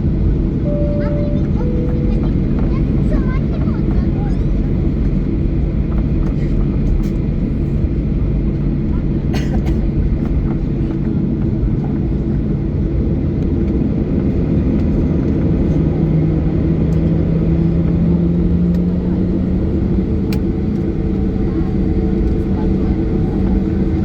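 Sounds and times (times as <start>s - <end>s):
jet cabin rumble: 0.0s - 24.0s.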